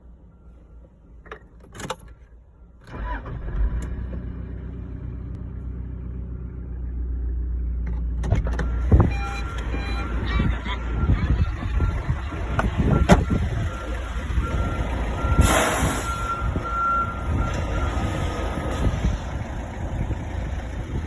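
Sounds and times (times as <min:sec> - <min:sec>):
diesel engine starting and idling: 0:00.0 - 0:21.0.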